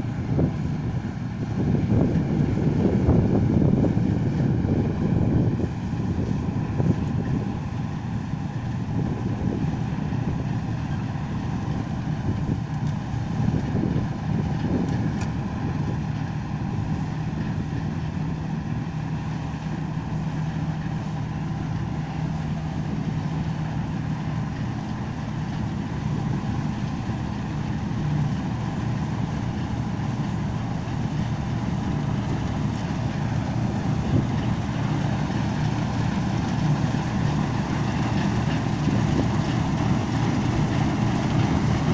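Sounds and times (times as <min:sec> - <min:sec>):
combine harvester drone: 0:00.0 - 0:41.9.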